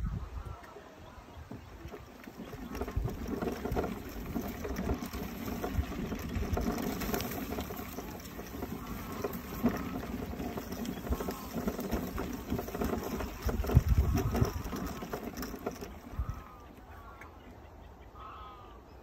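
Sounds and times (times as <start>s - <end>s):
wheels rumbling on gravel: 0.0s - 17.6s.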